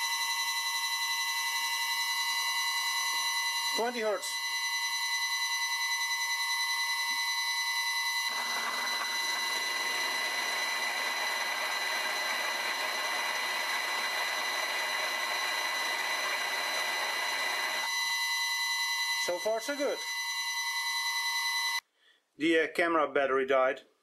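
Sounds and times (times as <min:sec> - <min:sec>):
drill bit cutting metal: 0:00.0 - 0:21.8
lathe motor whine: 0:00.0 - 0:21.8.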